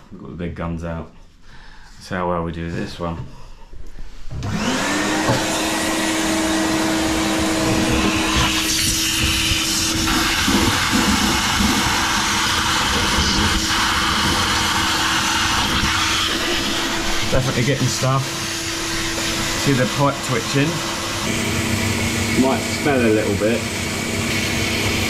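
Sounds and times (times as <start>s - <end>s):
vacuum motor whine: 4.4s - 25.0s.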